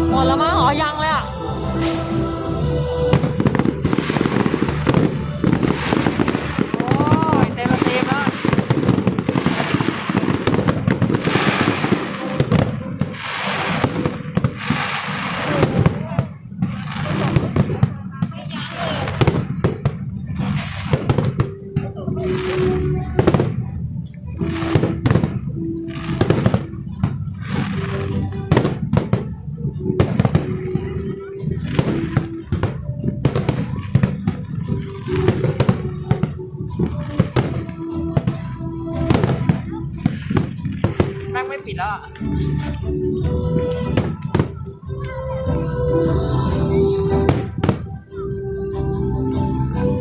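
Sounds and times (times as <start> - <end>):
music with sustained tones: 0.0 - 17.8, 18.8 - 50.0
fireworks bangs and crackling: 0.0 - 50.0.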